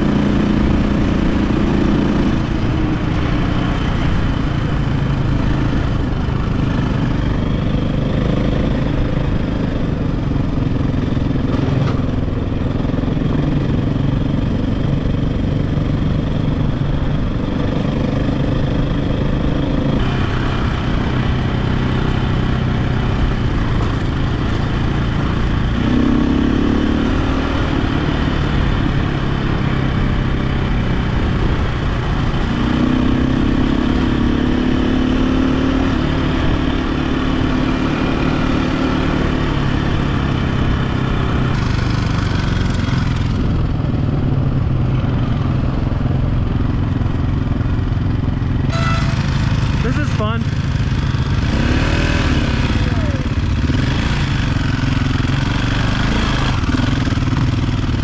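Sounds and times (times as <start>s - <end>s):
dirt bike engine running: 0.0s - 58.0s.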